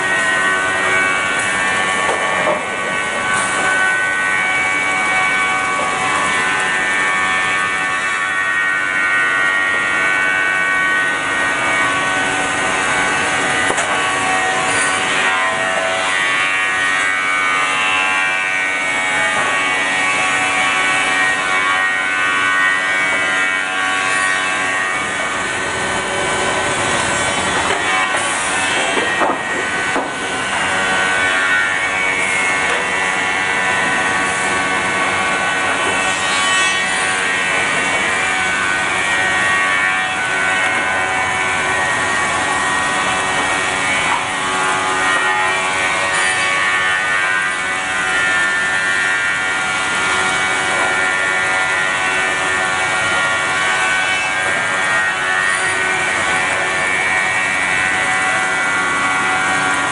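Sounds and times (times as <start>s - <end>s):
saw cutting wood: 0.0s - 59.9s
steady machinery noise: 0.0s - 59.9s.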